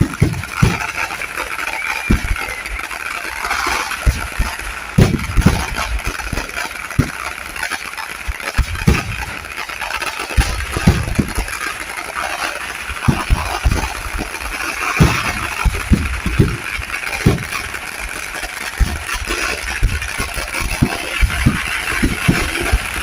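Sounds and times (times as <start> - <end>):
fireworks booming: 0.0 - 23.0
fireworks crackling: 0.0 - 23.0.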